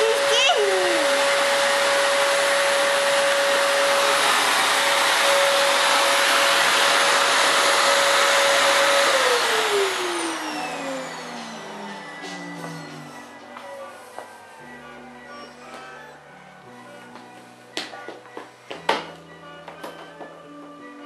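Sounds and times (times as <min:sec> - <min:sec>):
vacuum cleaner motor whine: 0:00.0 - 0:17.5.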